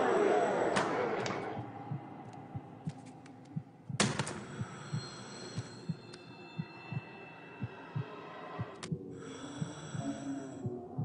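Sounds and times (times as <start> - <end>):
heartbeat thumps: 1.5 - 11.0.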